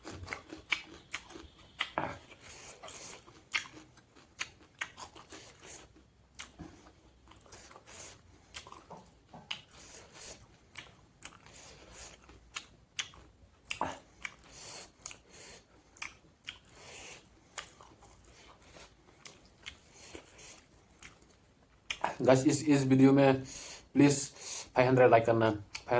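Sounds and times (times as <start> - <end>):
food crunching: 0.0 - 22.2
person chewing food: 0.0 - 22.2.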